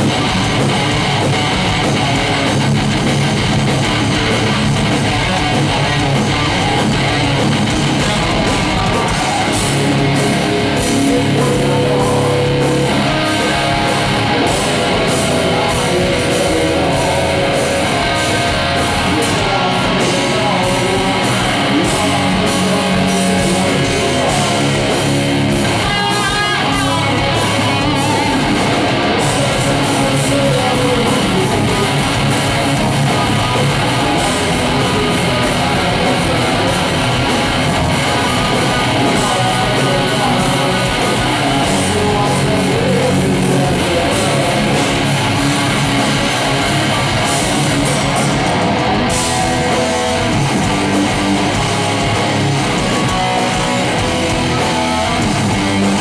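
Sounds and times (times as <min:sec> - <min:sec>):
drum kit: 0:00.0 - 0:56.0
electric guitars: 0:00.0 - 0:56.0
live hard rock band: 0:00.0 - 0:56.0.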